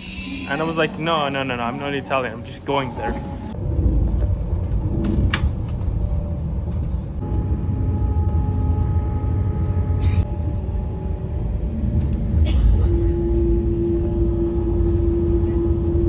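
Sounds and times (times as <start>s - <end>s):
train low rumble: 0.0s - 16.0s
train whine: 0.0s - 16.0s.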